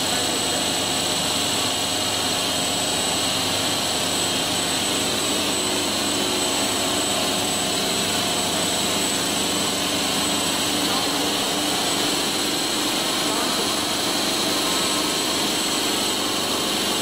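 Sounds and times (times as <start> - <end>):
high-pitched machine whine: 0.0 - 17.0
machinery running: 0.0 - 17.0.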